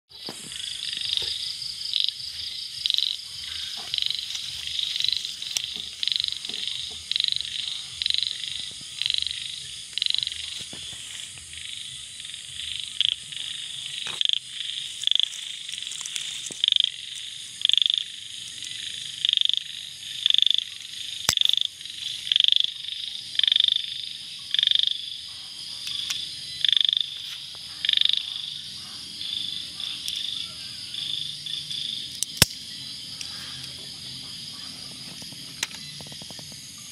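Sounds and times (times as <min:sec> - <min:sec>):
frogs calling: 0:00.1 - 0:36.9
night insects droning: 0:00.1 - 0:36.9.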